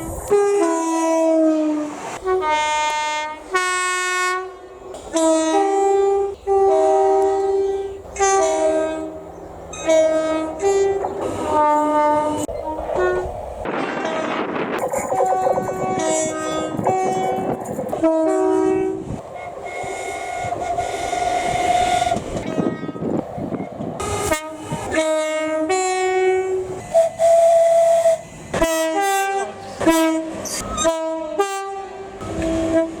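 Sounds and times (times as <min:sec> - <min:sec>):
train horn blasts: 0:00.0 - 0:33.0
train rumble and wheel clatter: 0:00.0 - 0:33.0.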